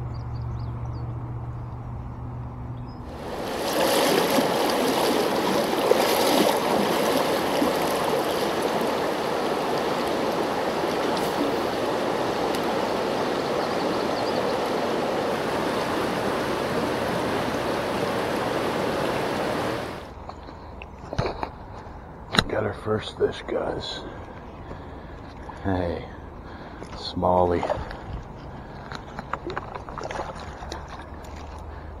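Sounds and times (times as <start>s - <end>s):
river water rushing and gurgling: 3.0s - 22.3s, 23.4s - 32.0s.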